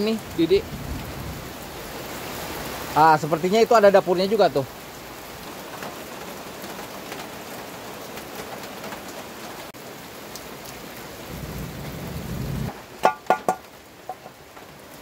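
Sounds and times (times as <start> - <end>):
rain falling: 0.0 - 15.0
water dripping off roof: 1.9 - 12.0, 12.6 - 15.0.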